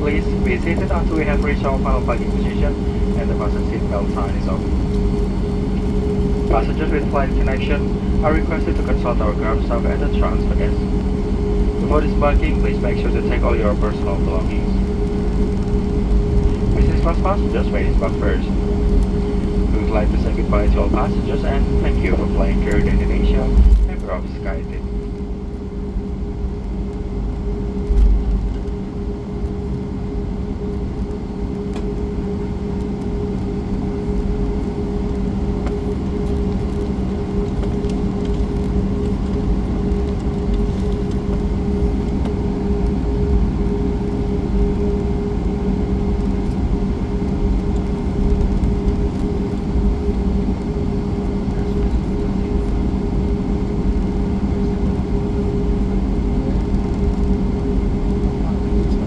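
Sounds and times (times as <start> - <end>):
jet engines idling hum: 0.0 - 59.0
rumble of rolling landing gear: 0.0 - 59.0.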